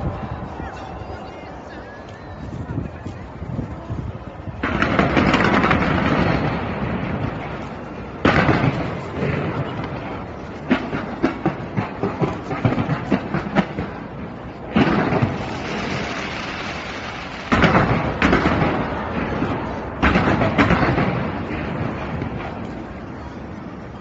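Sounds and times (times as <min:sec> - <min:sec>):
loud firework barrages: 0:04.4 - 0:24.0
fireworks popping and crackling: 0:04.5 - 0:23.9.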